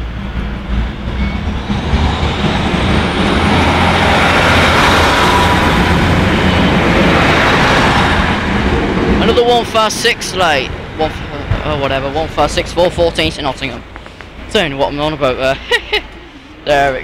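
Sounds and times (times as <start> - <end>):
diesel train engine rumble: 0.0 - 17.0
wheels rushing on rail: 0.0 - 17.0.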